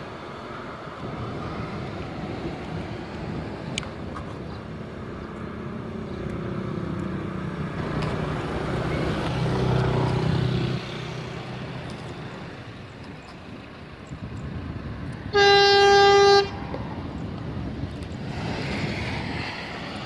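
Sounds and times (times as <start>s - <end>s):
traffic noise: 0.0s - 20.0s
vehicle engine hum: 0.0s - 20.0s.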